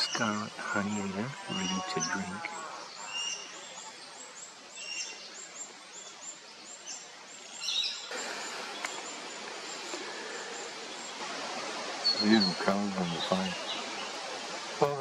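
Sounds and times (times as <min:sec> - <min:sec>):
outdoor hiss: 0:00.0 - 0:15.0
small birds chirping: 0:00.0 - 0:15.0.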